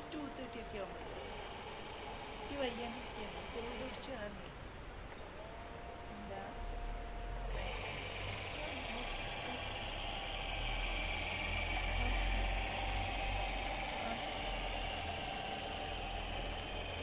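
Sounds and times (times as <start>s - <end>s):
low fluctuating rumble: 0.0s - 17.0s
small motor whirring: 0.0s - 17.0s.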